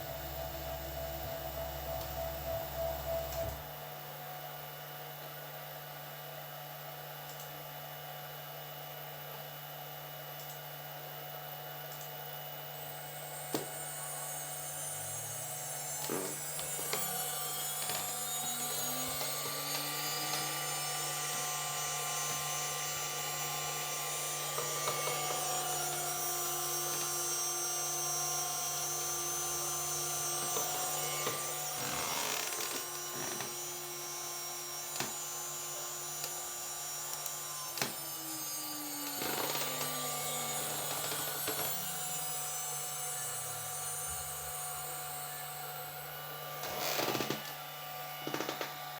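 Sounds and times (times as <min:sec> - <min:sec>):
cnc milling machine motor whine: 0:00.0 - 0:48.9.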